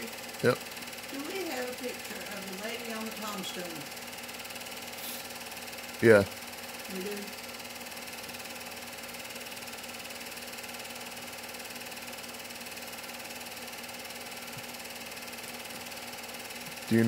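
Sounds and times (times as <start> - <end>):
film projector whirring: 0.0 - 17.0.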